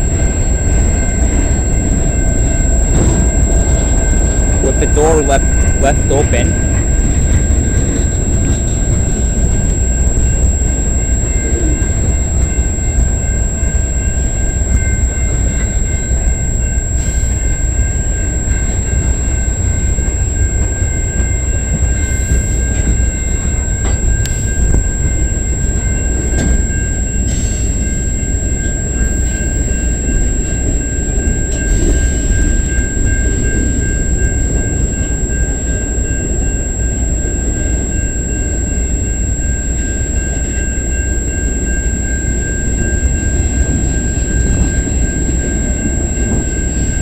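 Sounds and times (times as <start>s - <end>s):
faint high whine: 0.0s - 47.0s
train cars clanking: 0.0s - 47.0s
train wheels rumbling on rails: 0.0s - 47.0s.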